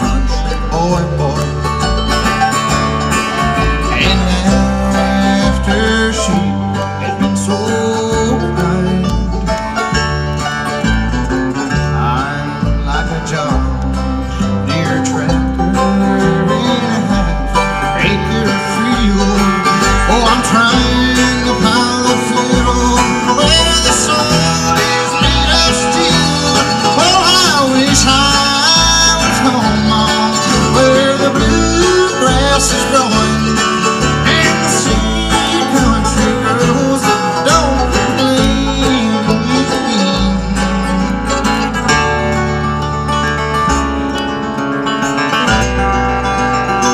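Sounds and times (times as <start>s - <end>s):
bluegrass band playing: 0.0s - 46.9s
picked acoustic guitar melody: 0.0s - 46.9s
stepping bass line: 0.0s - 46.9s.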